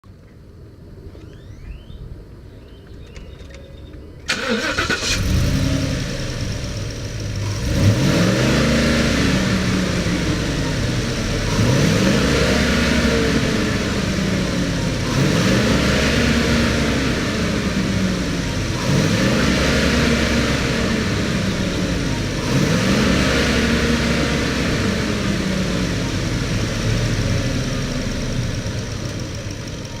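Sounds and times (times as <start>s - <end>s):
pickup engine idling and revving: 4.3s - 30.0s.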